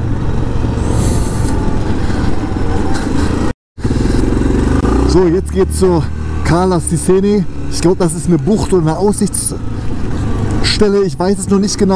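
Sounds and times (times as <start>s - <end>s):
quad engine running: 0.0s - 11.9s.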